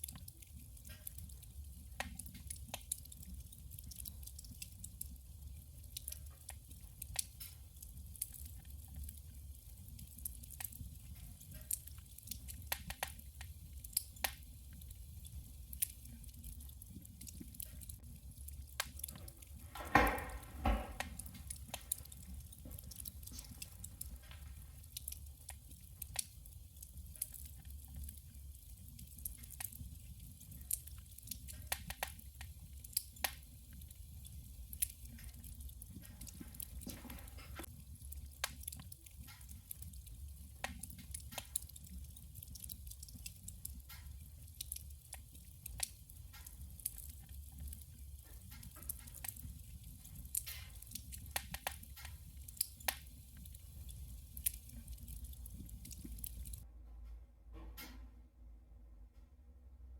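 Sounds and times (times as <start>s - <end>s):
firewood crackling and popping: 0.0s - 56.6s.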